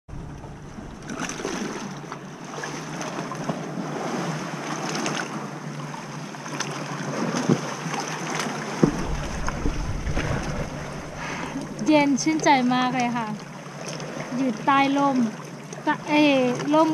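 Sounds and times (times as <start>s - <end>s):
oar splashes: 0.1s - 16.9s
water lapping against dinghy: 0.1s - 16.9s.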